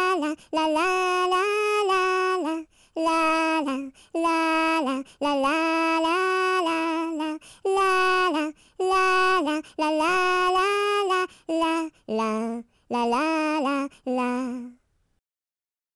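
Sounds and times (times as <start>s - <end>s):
person singing unaccompanied: 0.0s - 14.8s.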